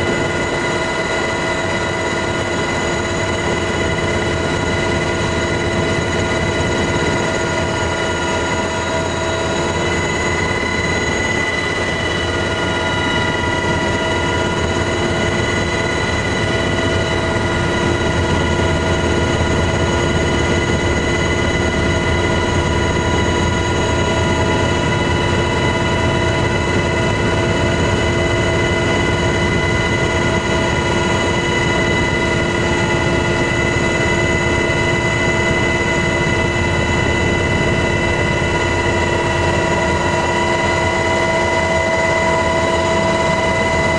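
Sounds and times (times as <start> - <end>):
helicopter engines and rotors: 0.0 - 43.9
high engine whines: 0.0 - 43.9.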